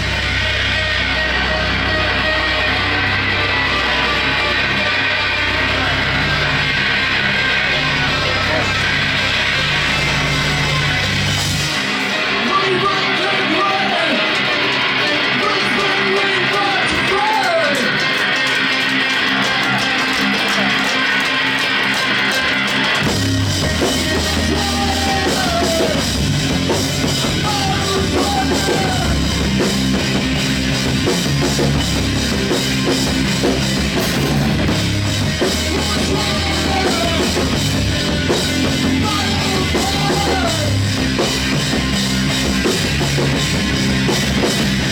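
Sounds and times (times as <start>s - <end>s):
electric guitars playing: 0.0s - 44.9s
rock band playing live: 0.0s - 44.9s.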